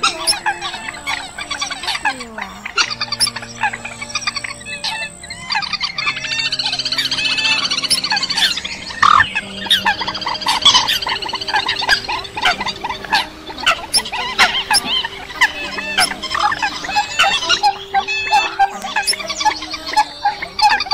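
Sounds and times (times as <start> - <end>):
coots and rails calling: 0.0 - 20.9.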